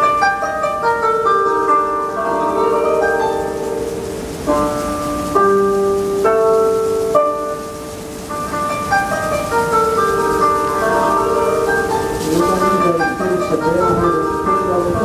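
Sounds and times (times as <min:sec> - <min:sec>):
bright melody over speakers: 0:00.0 - 0:15.0.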